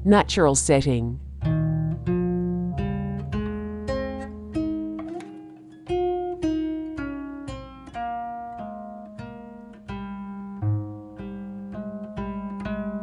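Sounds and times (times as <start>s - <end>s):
acoustic guitar plucked notes: 1.2s - 13.0s.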